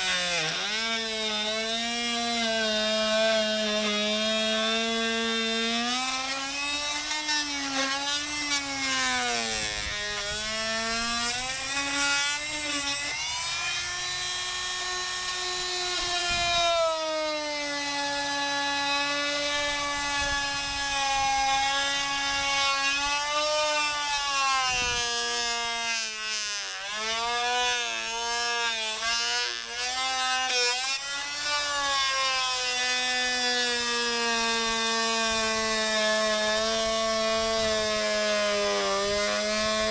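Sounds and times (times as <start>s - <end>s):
electric drill boring through wall: 0.0s - 39.9s.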